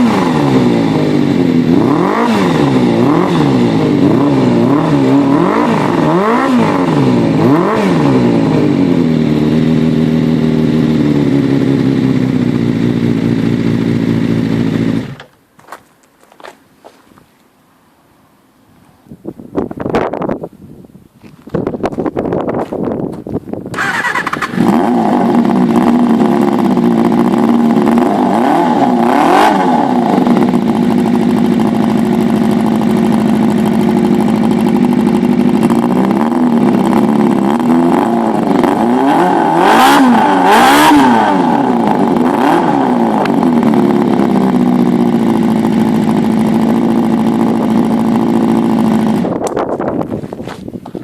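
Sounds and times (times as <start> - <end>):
motorcycle engine idling and revving: 0.0 - 17.0, 21.2 - 51.0.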